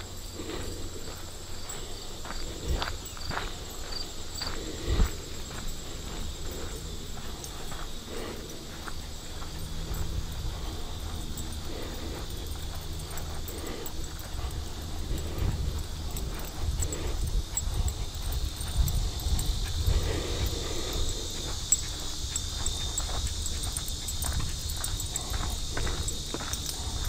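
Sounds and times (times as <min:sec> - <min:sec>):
footsteps on dirt trail: 0:00.0 - 0:27.0
high insect trill: 0:00.0 - 0:27.0
low uneven rumble: 0:00.0 - 0:27.0.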